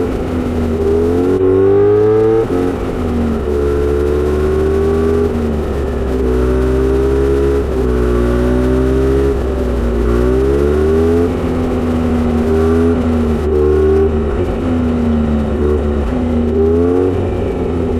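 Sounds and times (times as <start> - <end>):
motorcycle exhaust note: 0.0 - 17.9.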